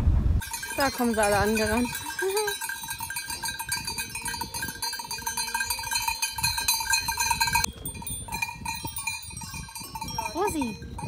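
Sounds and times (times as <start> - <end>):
livestock bells jangling: 0.4 - 11.0.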